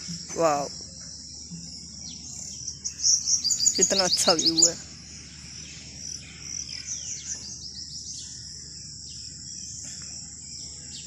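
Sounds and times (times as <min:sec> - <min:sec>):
birds chirping: 0:00.0 - 0:11.0
insects droning: 0:00.0 - 0:11.0.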